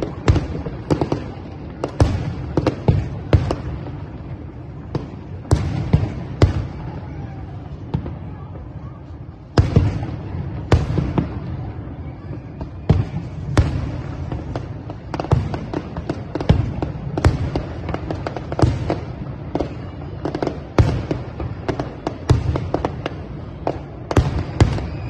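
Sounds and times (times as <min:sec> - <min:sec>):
fireworks bangs with echo: 0:00.0 - 0:25.0.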